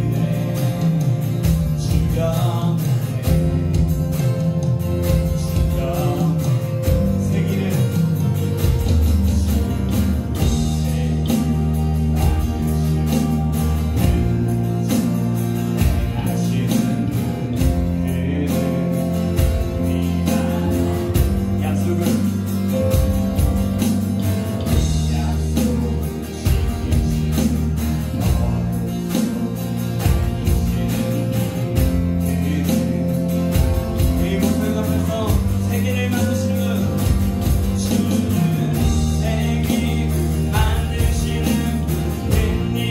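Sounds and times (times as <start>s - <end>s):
acoustic guitar: 0.0s - 42.9s
bass guitar: 0.0s - 42.9s
keyboard: 0.0s - 42.9s
electronic drums: 0.8s - 18.4s, 19.2s - 42.9s.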